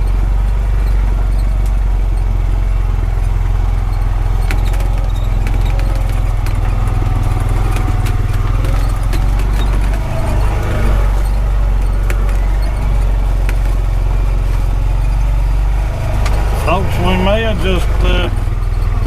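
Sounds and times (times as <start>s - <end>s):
light clicks and rattles: 0.0s - 19.0s
utility vehicle engine running: 0.0s - 19.0s.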